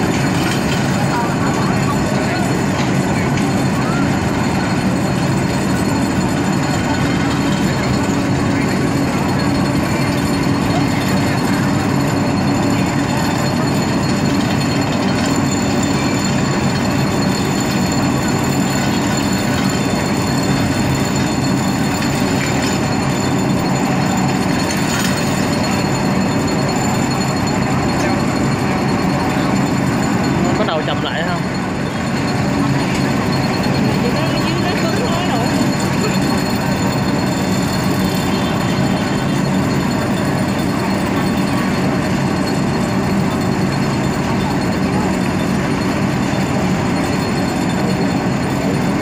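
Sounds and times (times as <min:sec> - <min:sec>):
pile driving machinery din: 0:00.0 - 0:49.0.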